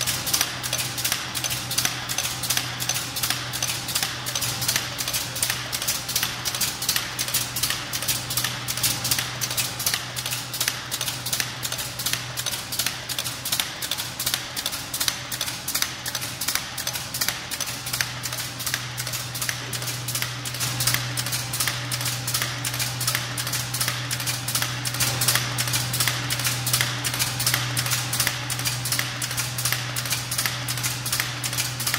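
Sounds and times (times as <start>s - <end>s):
machine motor hum: 0.0s - 31.9s
nail machine clattering: 0.0s - 31.9s.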